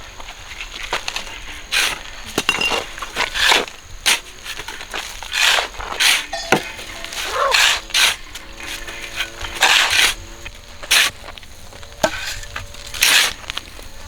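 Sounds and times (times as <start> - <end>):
gravel clinks: 0.2 - 14.0
shovel scraping sand and cement: 1.0 - 14.0.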